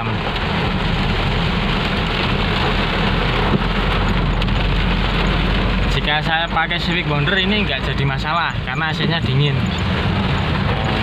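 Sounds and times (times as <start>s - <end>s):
car rumble: 0.0s - 11.0s
heavy rain on car roof: 0.0s - 11.0s.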